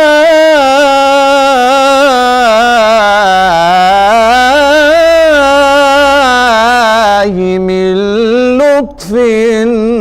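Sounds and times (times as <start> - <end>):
person singing melismatic chant: 0.0 - 10.0.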